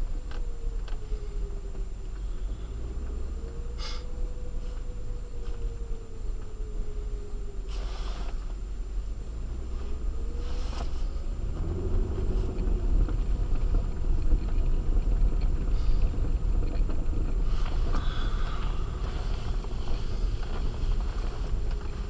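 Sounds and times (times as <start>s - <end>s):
car tyres rumbling on snow: 0.0s - 22.0s
faint engine tone: 0.0s - 22.0s.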